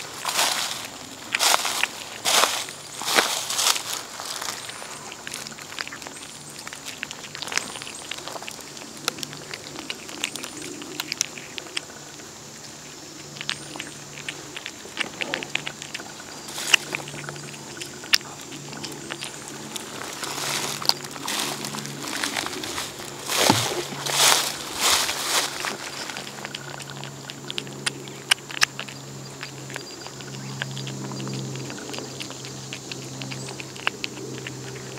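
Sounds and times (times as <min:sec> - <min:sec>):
cat chewing and lapping: 0:00.0 - 0:34.9.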